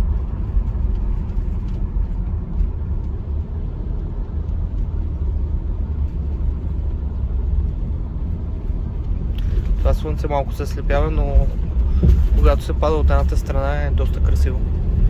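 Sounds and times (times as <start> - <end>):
car interior driving drone: 0.0 - 15.0.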